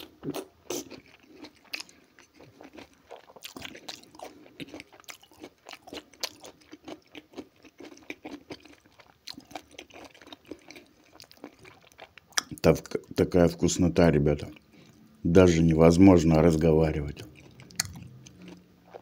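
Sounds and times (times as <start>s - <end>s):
man chewing food: 0.0s - 13.2s, 14.4s - 15.2s, 17.2s - 19.0s.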